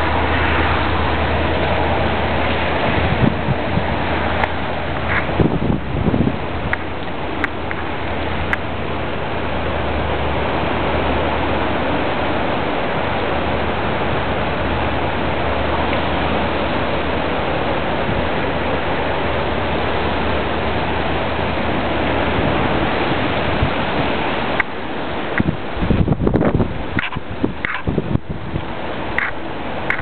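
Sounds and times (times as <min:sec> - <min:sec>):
low steady rumble: 0:00.0 - 0:30.0
storm wind and rain: 0:00.0 - 0:30.0.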